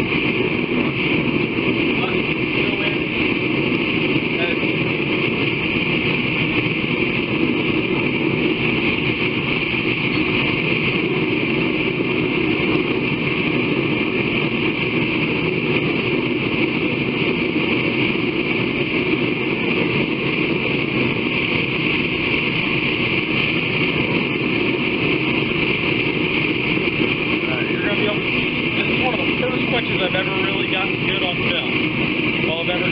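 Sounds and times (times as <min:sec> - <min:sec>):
forge rushing: 0:00.0 - 0:32.9.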